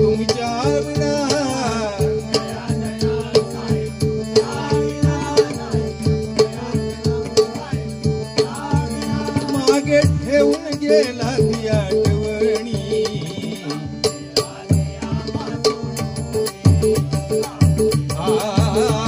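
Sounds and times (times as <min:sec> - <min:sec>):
harmonium holding notes: 0:00.0 - 0:19.0.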